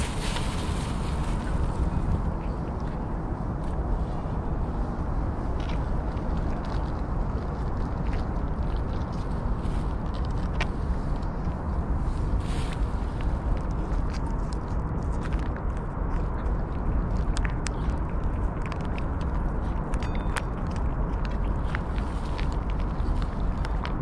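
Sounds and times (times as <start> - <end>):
cats licking and chewing: 0.0 - 24.0
steady low rumble: 0.0 - 24.0.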